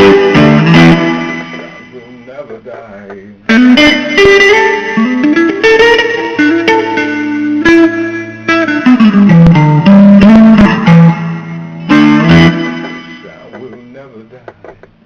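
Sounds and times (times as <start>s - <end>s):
bass line: 0.0s - 2.3s, 3.4s - 13.8s
blues guitar lead: 0.0s - 15.0s.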